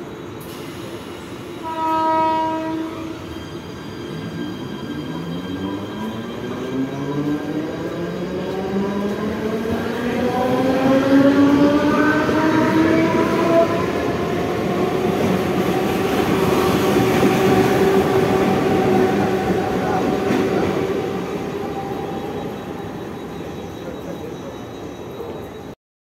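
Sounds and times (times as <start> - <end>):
train wheels rumbling on rails: 0.0 - 25.7.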